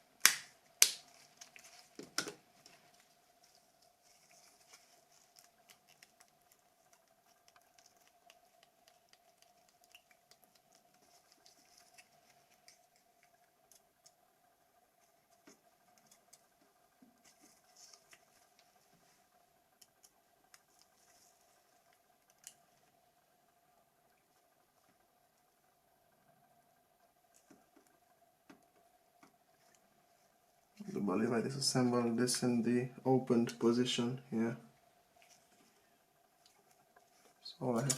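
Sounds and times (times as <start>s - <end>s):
faint steady hum: 0.0s - 37.9s.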